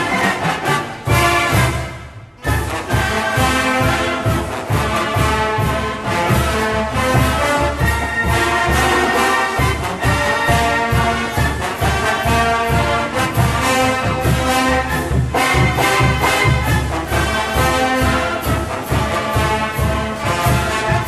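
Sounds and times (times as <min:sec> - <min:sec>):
brass playing: 0:00.0 - 0:21.0
steady drum beat: 0:00.0 - 0:21.0.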